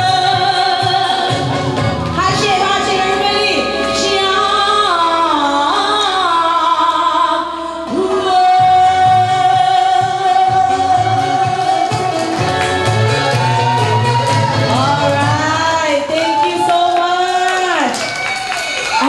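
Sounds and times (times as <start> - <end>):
backing music: 0.0 - 17.5
woman singing into a microphone: 0.0 - 18.0.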